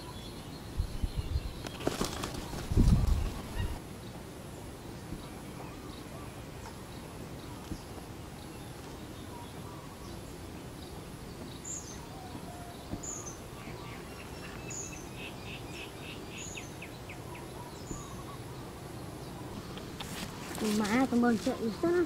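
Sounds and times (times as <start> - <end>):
small birds chirping: 0.0 - 22.0
steady background noise: 0.0 - 22.0.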